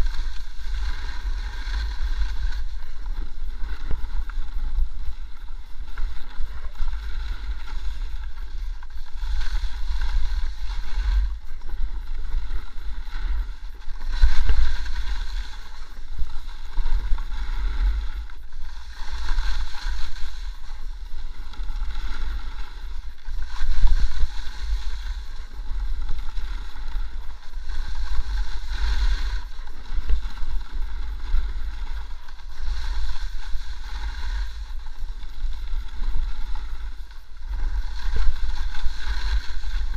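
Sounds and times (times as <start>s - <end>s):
ski edges scraping snow: 0.0s - 39.9s
wind buffeting microphone: 0.0s - 39.9s.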